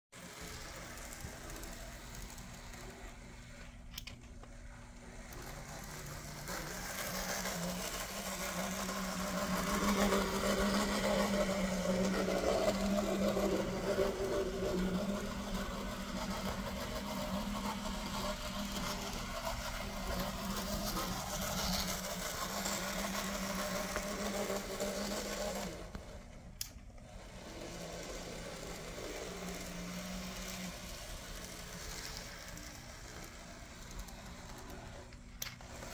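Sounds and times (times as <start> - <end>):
model train motor whining: 0.2 - 35.9.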